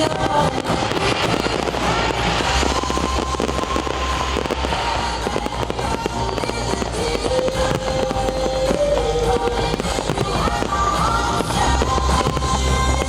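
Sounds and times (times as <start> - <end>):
fireworks crackling: 0.0 - 13.0
music holding a long note: 0.0 - 13.0.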